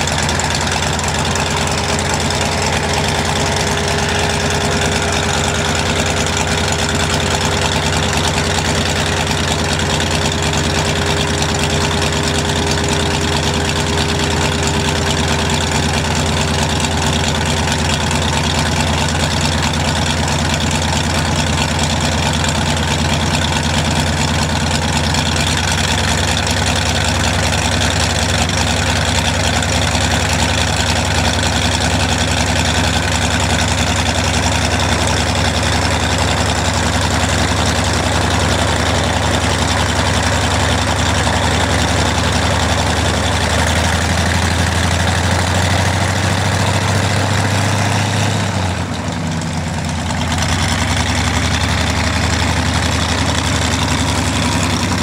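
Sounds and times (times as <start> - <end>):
aircraft engine idling: 0.0 - 55.0.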